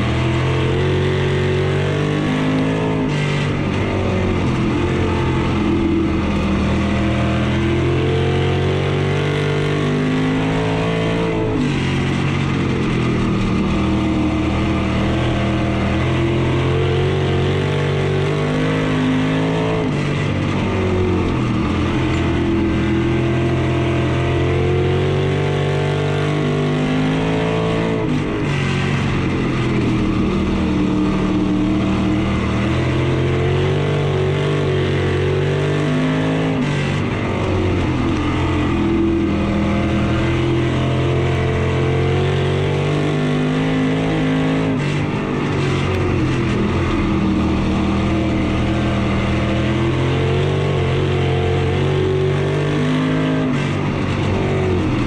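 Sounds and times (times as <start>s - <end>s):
race car engine running hard: 0.0s - 55.0s.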